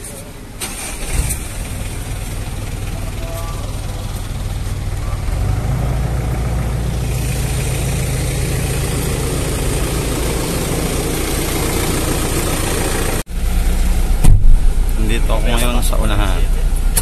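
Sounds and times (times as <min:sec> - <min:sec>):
minibus engine idling: 0:00.0 - 0:17.0.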